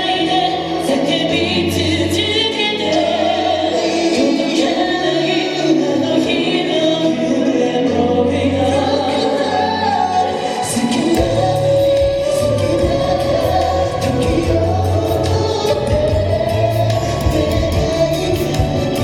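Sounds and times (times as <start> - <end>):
backing music with bass line: 0.0 - 19.0
boy band singing: 0.0 - 19.0.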